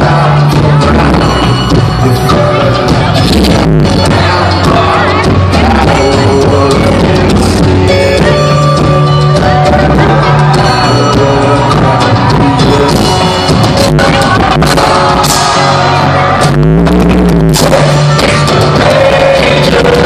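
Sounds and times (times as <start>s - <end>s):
deep bass glide: 0.0s - 20.0s
loud live concert music: 0.0s - 20.0s
person singing: 0.0s - 20.0s.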